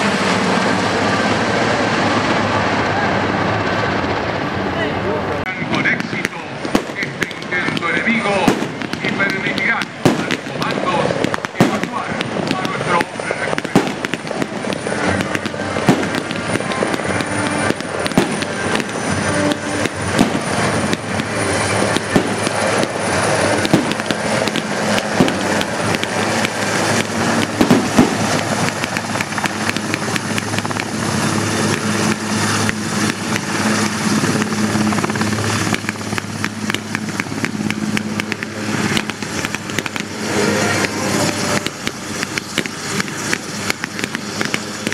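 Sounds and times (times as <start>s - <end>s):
helicopter rotor and turbine roar: 0.0s - 44.9s
sharp cracks: 5.9s - 44.9s.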